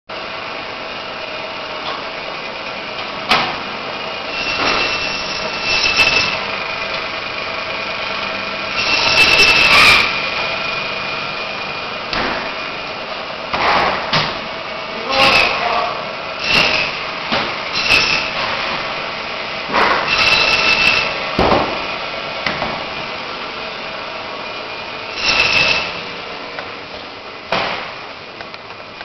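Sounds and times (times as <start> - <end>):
band saw whining: 0.2 - 27.4.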